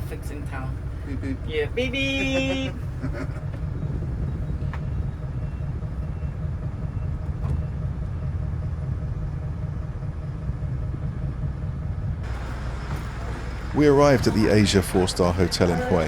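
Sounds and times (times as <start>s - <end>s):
bus rumbling from inside: 0.0s - 16.0s.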